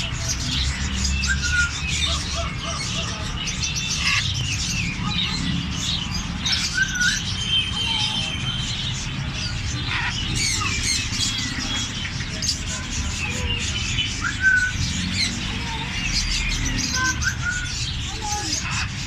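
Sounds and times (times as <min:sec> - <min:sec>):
birds chirping and whistling: 0:00.0 - 0:19.0.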